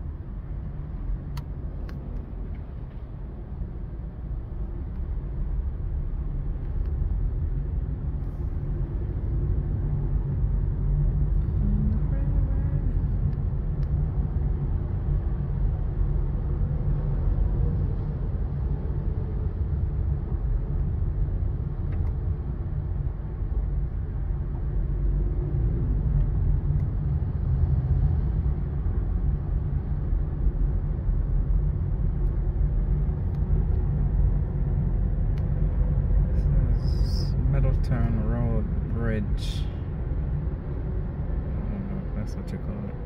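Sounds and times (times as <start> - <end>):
car driving on highway: 0.0 - 43.0.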